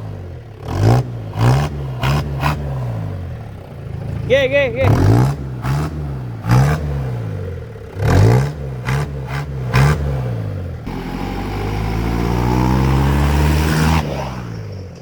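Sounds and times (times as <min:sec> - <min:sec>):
pickup engine revving: 0:00.0 - 0:15.0.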